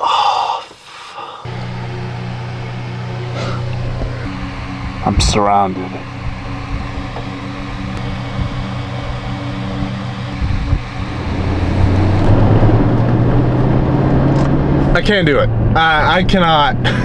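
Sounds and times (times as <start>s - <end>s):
pickup truck engine driving off: 1.5s - 17.0s.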